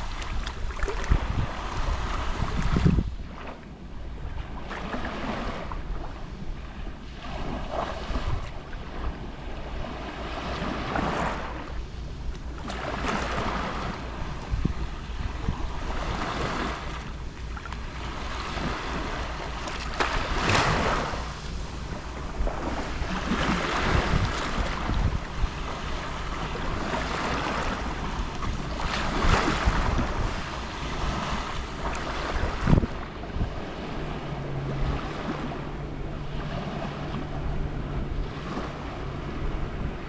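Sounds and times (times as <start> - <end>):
gentle waves lapping on shore: 0.0 - 40.0.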